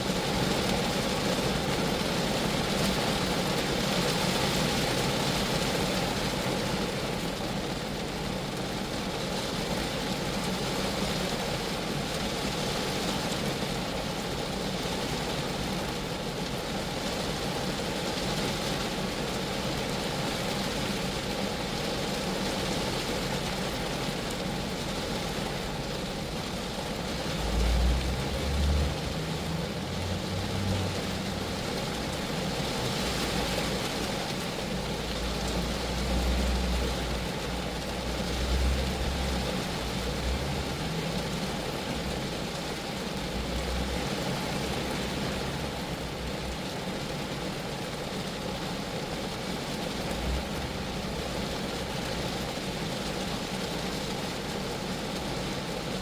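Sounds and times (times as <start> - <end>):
rain on car body: 0.0 - 56.0.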